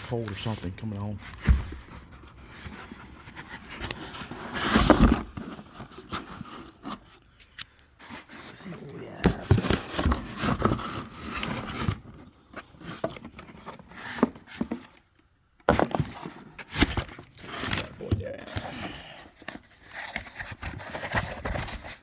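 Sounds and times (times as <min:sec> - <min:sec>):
cardboard box being handled: 0:00.0 - 0:07.3, 0:08.0 - 0:15.0, 0:15.7 - 0:22.0.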